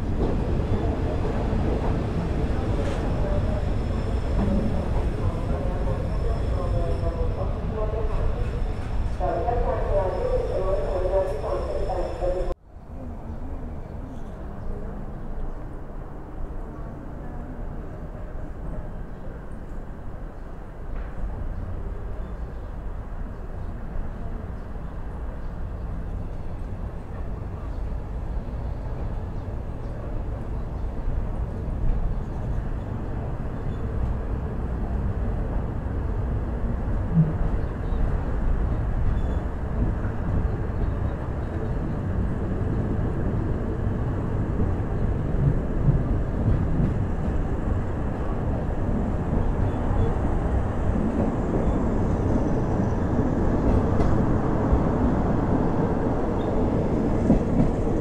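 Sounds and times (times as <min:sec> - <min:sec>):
train carriage rumble: 0:00.0 - 0:58.0.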